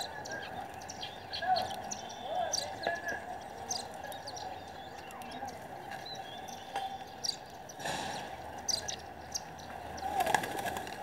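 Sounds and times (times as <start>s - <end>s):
outdoor background noise: 0.0s - 11.0s
sparrows chirping: 0.0s - 11.0s.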